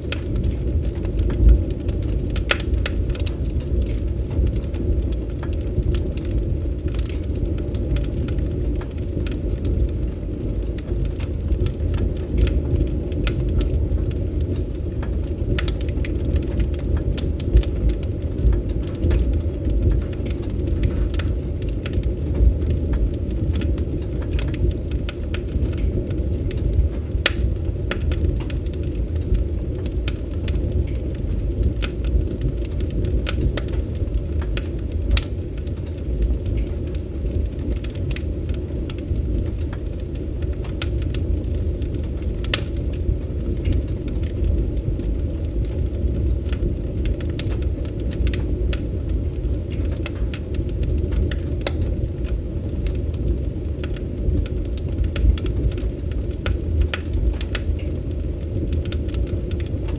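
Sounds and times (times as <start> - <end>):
fireplace fire crackling: 0.0 - 59.9
low rumble of flames: 0.0 - 59.9.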